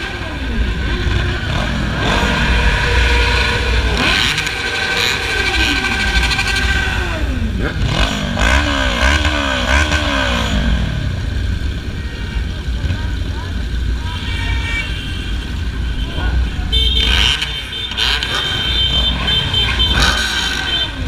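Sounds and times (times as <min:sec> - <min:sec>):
engine blipping: 0:00.0 - 0:13.0, 0:15.4 - 0:21.0
motorcycle engines revving: 0:00.0 - 0:21.0.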